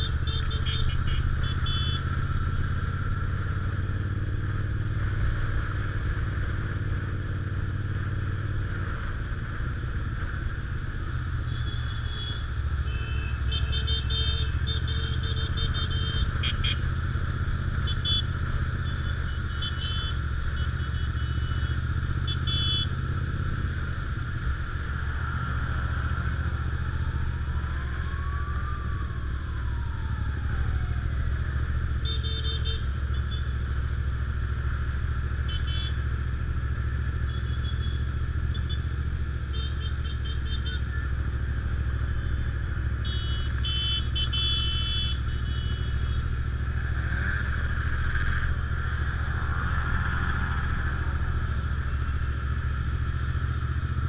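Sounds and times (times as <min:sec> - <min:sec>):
motorcycle engines droning: 0:00.0 - 0:54.0.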